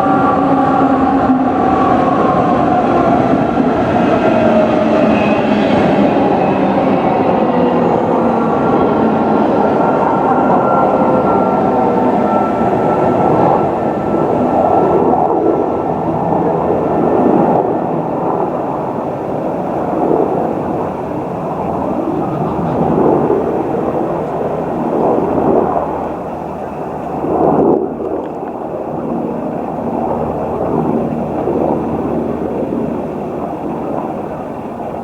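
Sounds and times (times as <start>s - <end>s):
faint whine: 0.0s - 35.0s
train rumbling past: 0.0s - 35.0s.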